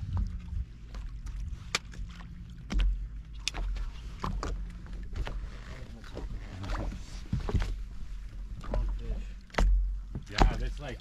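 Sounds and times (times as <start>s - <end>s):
water against boat hull: 0.0s - 11.0s.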